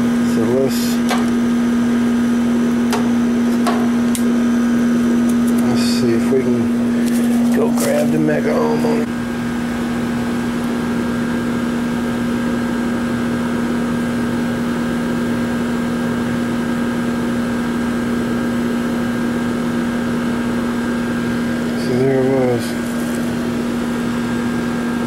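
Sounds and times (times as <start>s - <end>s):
air conditioner hum: 0.0s - 25.0s.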